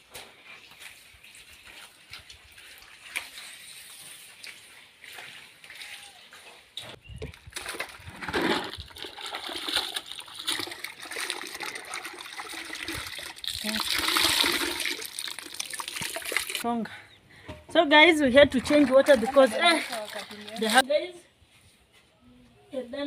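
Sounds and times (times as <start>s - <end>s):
water splashing and sloshing: 0.6s - 16.7s, 17.5s - 20.9s.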